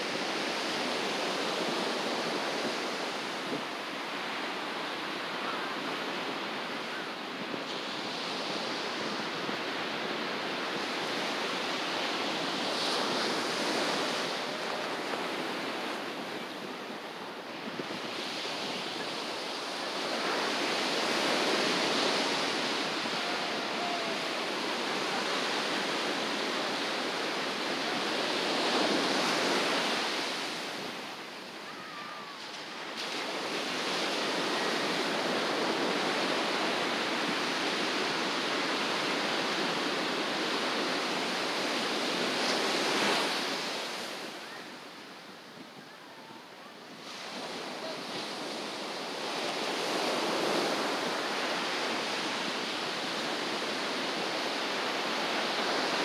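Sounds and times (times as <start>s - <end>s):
ocean surf breaking: 0.0s - 45.0s, 46.9s - 56.0s.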